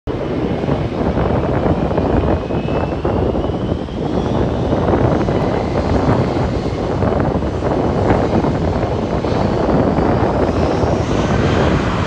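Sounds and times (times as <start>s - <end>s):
jet engines rumbling: 0.1s - 12.0s.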